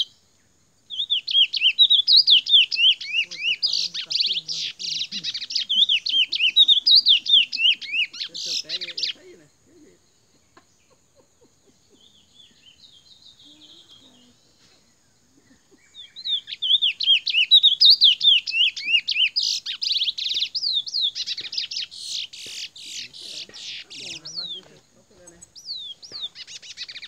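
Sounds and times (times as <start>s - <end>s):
bird singing whistled notes and trills: 0.0s - 27.0s.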